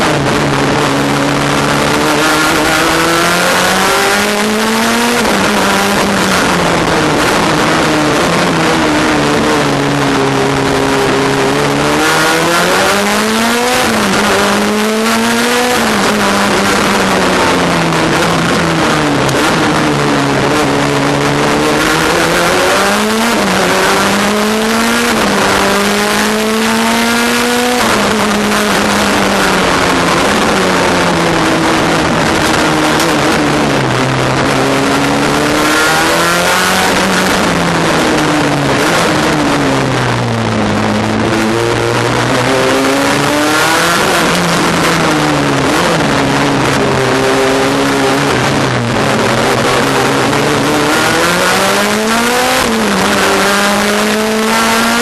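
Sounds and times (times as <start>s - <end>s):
loud rushing noise: 0.0s - 55.0s
race car engine revving: 0.0s - 55.0s.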